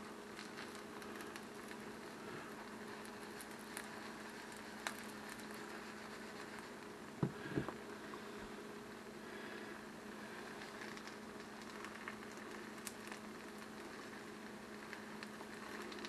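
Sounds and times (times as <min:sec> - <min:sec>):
cheese frying with crackles: 0:00.0 - 0:08.4, 0:09.0 - 0:16.0
steady low hum: 0:00.0 - 0:16.0.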